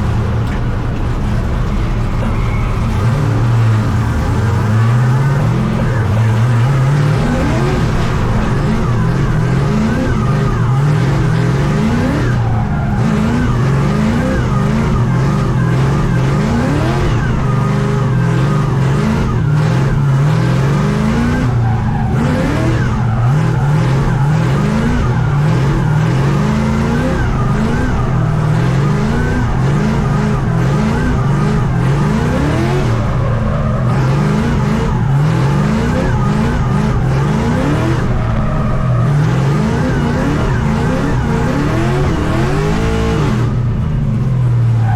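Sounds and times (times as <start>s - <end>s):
car engine revving: 0.0s - 44.9s
tyres skidding and squealing: 0.0s - 44.9s.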